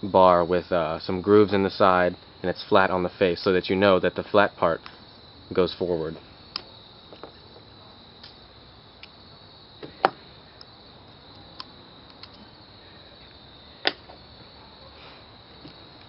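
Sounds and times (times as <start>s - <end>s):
high insect chirring: 0.0s - 16.0s.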